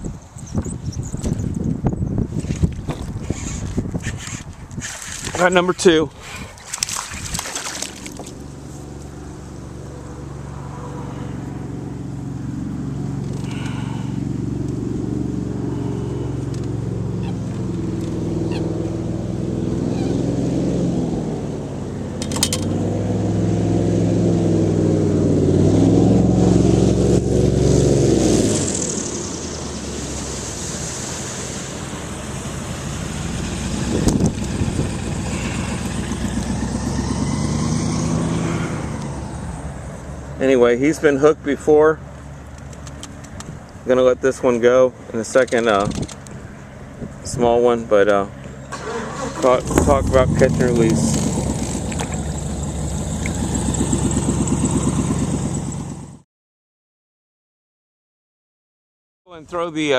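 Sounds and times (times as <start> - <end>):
airboat engine and propeller drone: 7.8 - 56.2.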